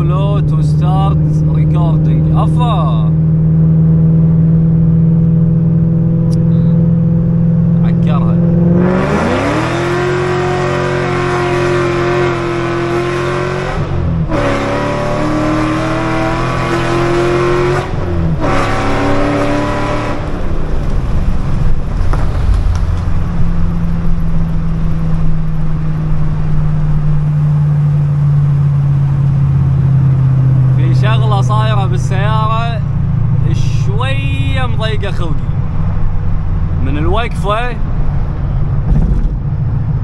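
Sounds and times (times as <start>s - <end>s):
car engine accelerating: 0.0s - 40.0s
road noise: 0.0s - 40.0s.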